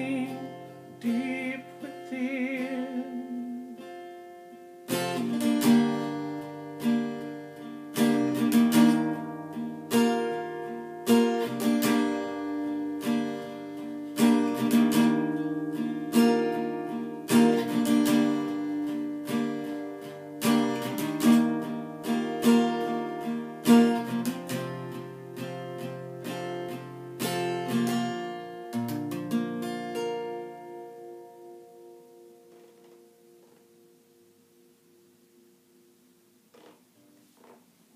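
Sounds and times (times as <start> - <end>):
acoustic guitar strummed and picked: 0.0 - 37.9.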